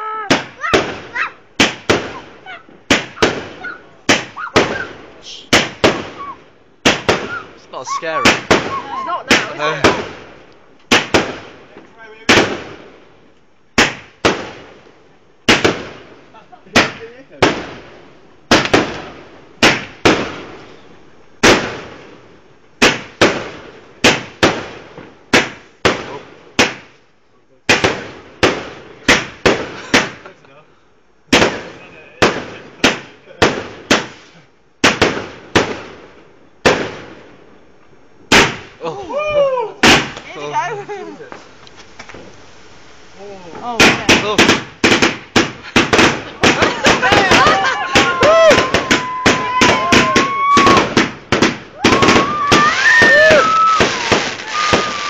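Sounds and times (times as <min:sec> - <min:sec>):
firework bangs: 0:00.0 - 0:20.8, 0:21.4 - 0:27.0, 0:27.6 - 0:30.4, 0:31.3 - 0:37.5, 0:38.2 - 0:38.8, 0:39.8 - 0:40.4, 0:41.9 - 0:55.0.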